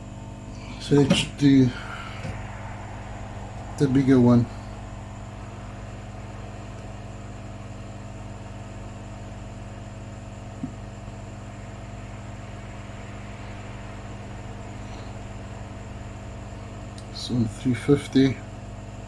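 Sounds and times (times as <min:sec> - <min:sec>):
hot-air gun fan hiss: 0:00.0 - 0:19.0
low electrical hum: 0:00.0 - 0:19.0.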